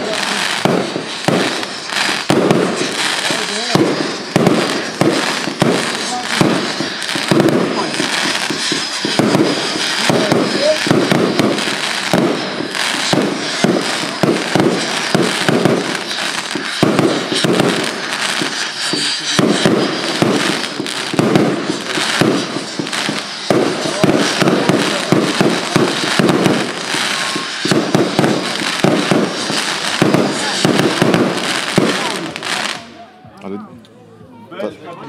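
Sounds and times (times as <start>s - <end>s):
fireworks bangs and crackles: 0.0s - 33.8s.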